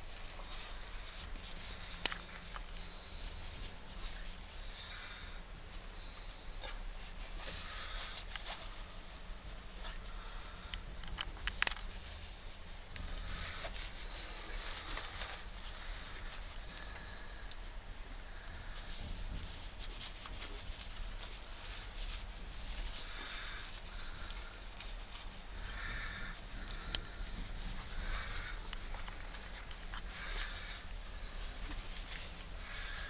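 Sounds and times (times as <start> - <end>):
rustling handling noises: 0.0 - 33.0.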